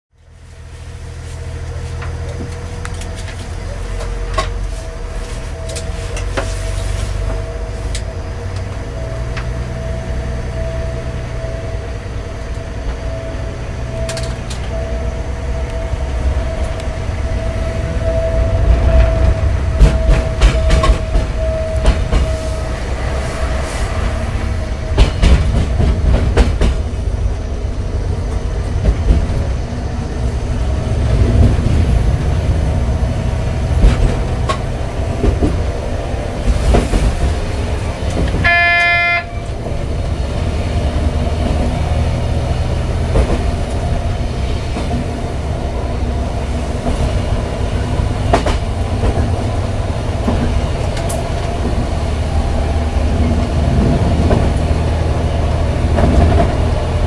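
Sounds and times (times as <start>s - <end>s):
railcar engine rumble: 0.1s - 57.0s.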